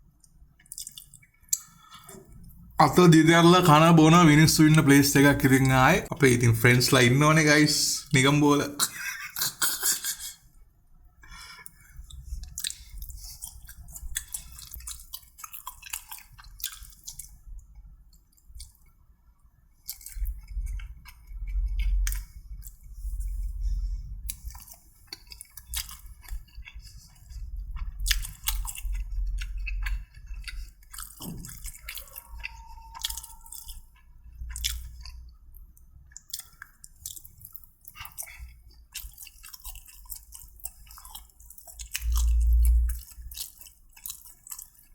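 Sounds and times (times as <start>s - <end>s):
person chewing food: 0.0s - 7.4s, 8.1s - 44.9s.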